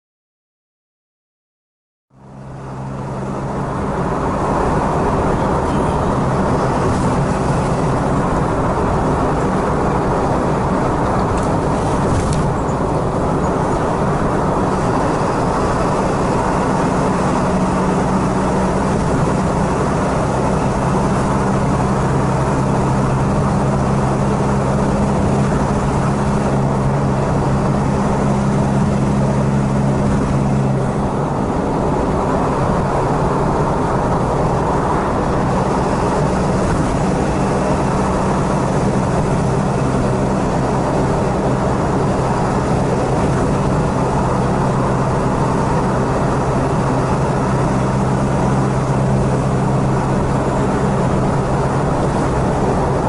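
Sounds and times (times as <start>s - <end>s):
low drone: 2.1s - 53.0s
vehicle engine and road noise: 2.1s - 53.0s.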